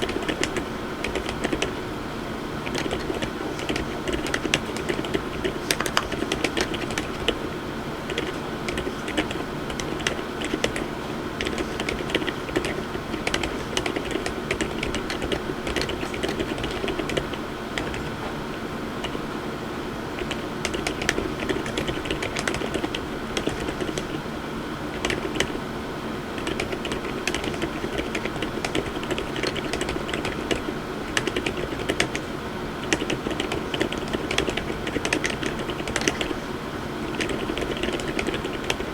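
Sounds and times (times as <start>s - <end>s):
mechanical keyboard typing: 0.0s - 1.8s, 2.6s - 18.4s, 19.0s - 19.3s, 20.2s - 24.3s, 24.9s - 25.6s, 26.4s - 32.2s, 32.8s - 36.4s, 37.0s - 38.9s.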